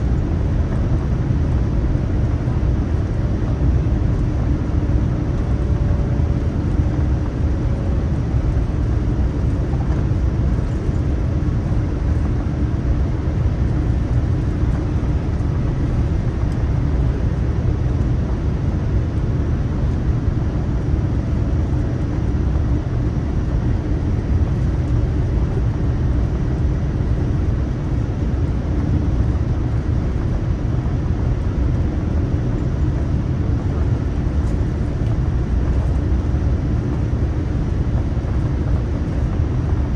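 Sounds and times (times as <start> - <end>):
airliner engine rumble: 0.0 - 39.9.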